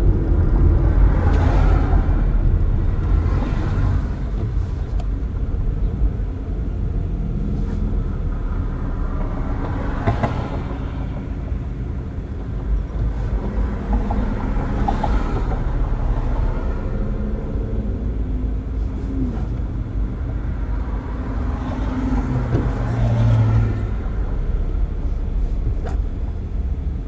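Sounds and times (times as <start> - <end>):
tyre and wind road noise: 0.0 - 27.0.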